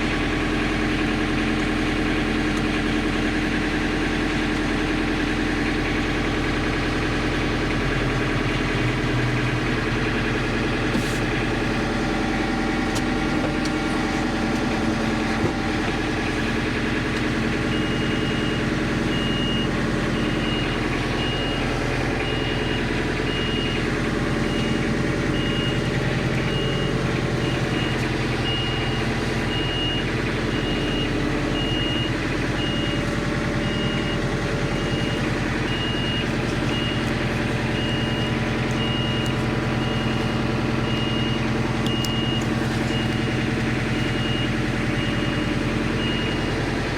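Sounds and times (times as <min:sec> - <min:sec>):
engine running steadily: 0:00.0 - 0:46.9
reversing alarm beeping: 0:00.0 - 0:46.9.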